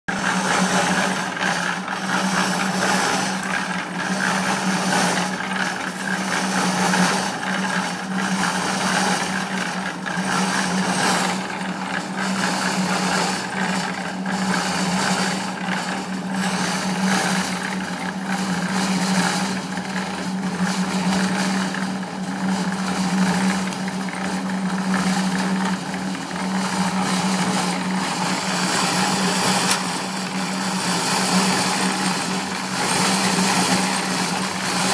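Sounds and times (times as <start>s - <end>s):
concrete mixer motor humming: 0.1s - 34.9s
hoe scraping mortar: 0.1s - 34.9s.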